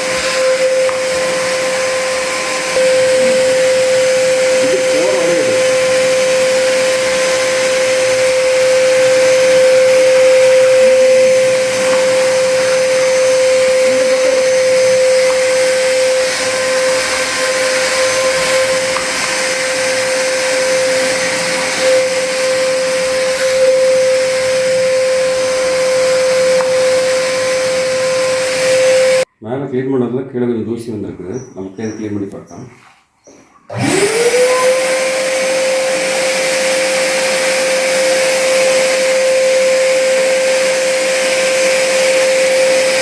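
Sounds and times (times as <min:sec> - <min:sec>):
vacuum cleaner running: 0:00.0 - 0:29.3, 0:33.7 - 0:43.0.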